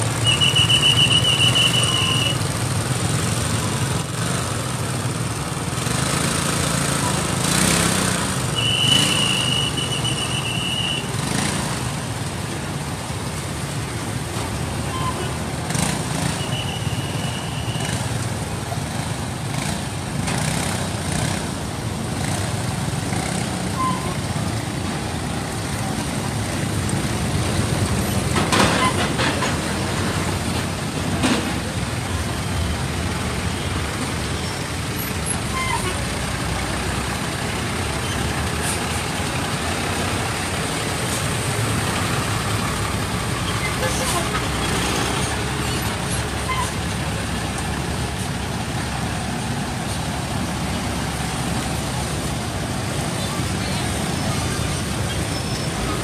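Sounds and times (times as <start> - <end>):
passing motorbikes and trucks: 0.0 - 56.0.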